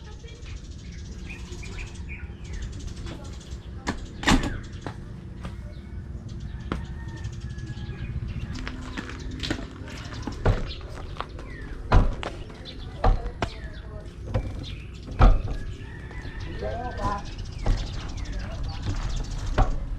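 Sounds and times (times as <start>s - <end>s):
birds chirping: 0.0s - 19.9s
steady low rumble: 0.0s - 19.9s.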